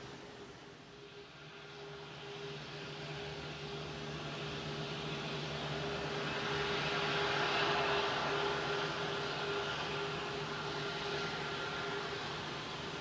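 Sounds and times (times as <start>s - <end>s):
distant jet engines humming: 0.0s - 13.0s.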